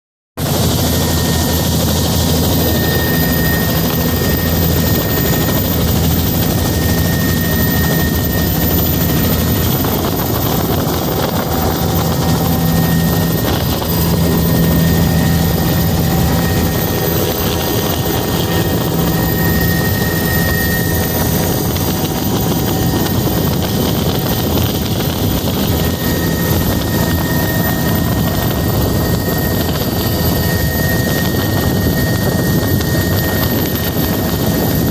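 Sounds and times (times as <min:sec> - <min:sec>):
helicopter engine and rotor noise: 0:00.4 - 0:34.9
thin high whine: 0:00.4 - 0:34.9.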